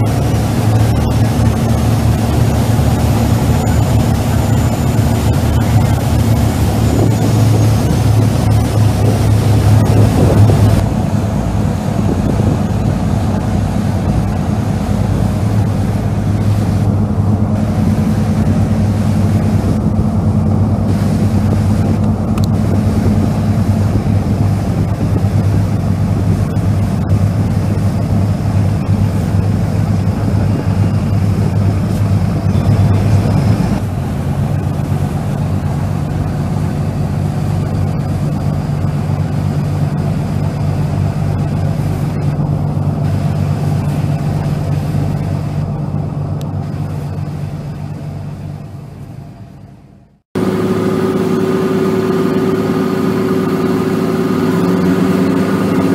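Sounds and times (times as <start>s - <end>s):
ferry engines droning: 0.0s - 55.9s
rushing water and hull noise: 0.0s - 55.9s.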